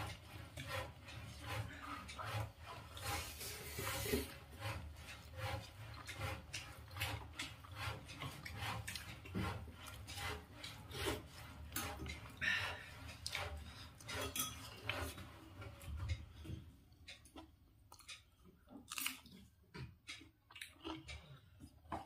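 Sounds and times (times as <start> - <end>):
person chewing food: 1.8 - 11.2, 12.0 - 14.1, 14.8 - 22.0.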